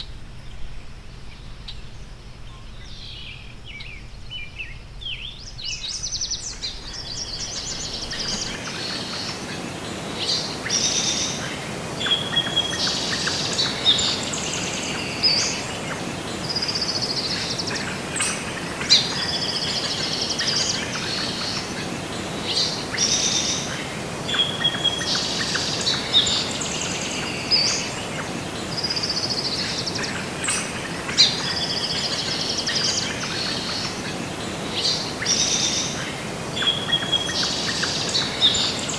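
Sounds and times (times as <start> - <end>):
outdoor hiss: 0.0 - 38.9
small birds chirping and singing: 1.2 - 38.9.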